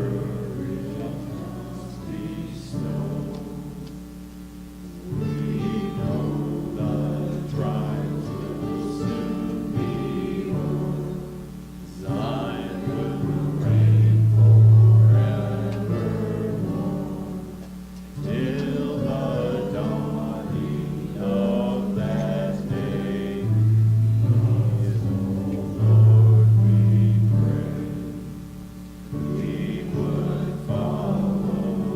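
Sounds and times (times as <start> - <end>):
congregation singing a hymn: 0.0 - 31.9.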